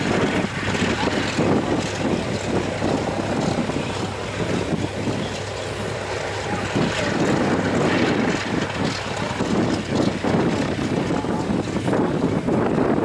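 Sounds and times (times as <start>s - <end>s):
aircraft engines rumbling: 0.0s - 13.0s
wind buffeting microphone: 0.0s - 13.0s.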